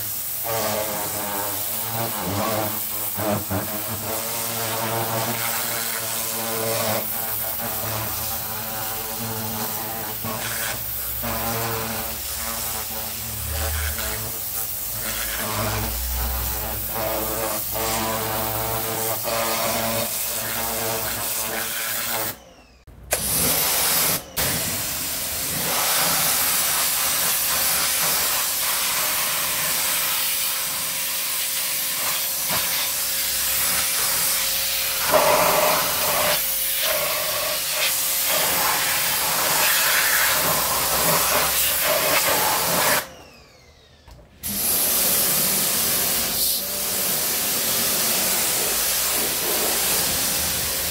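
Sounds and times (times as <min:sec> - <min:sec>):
pressure washer jet hissing: 0:00.0 - 0:22.4, 0:23.1 - 0:43.1, 0:44.4 - 0:50.9.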